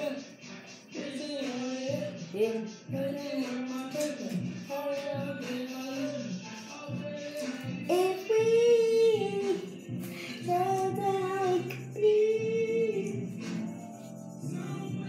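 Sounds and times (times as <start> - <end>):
girl singing: 0.0 - 0.4, 1.0 - 15.0
background song: 0.0 - 15.0.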